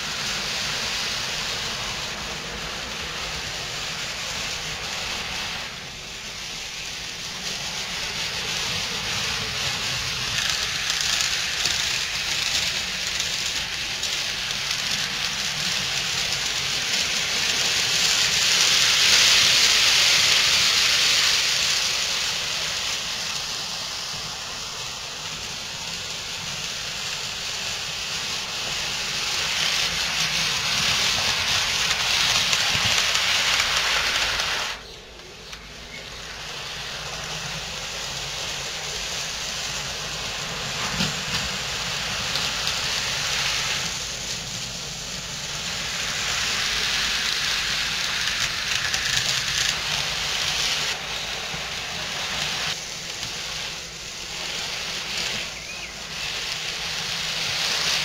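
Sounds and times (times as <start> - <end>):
model trains whirring on track: 0.0 - 58.0.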